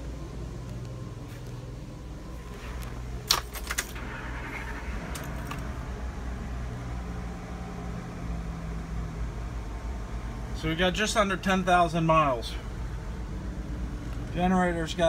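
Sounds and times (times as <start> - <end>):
engine idling: 1.8 - 15.0.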